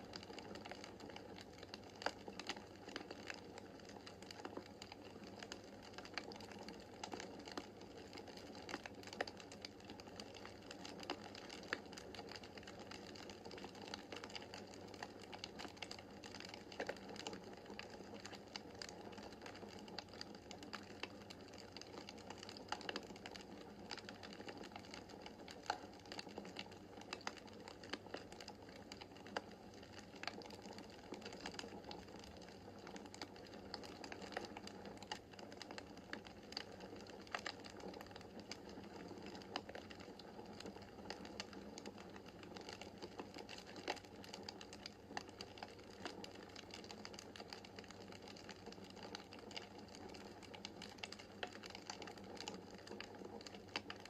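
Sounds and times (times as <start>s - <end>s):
wood fire crackling: 0.3s - 54.0s.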